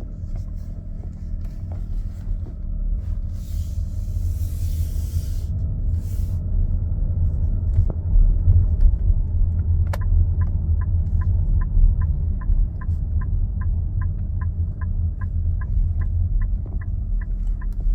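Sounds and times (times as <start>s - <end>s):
engine low rumble: 0.0s - 17.9s.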